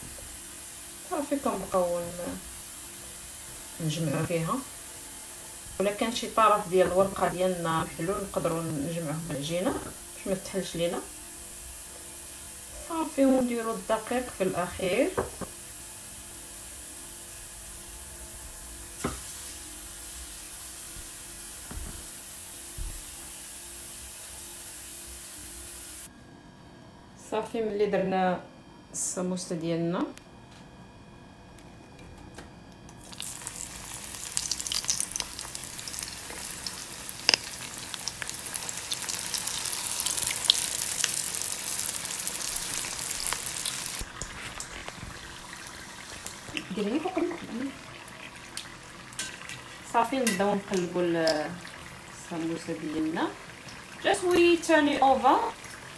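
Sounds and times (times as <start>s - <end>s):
food sizzling in hot oil: 0.0s - 26.1s, 33.0s - 55.9s.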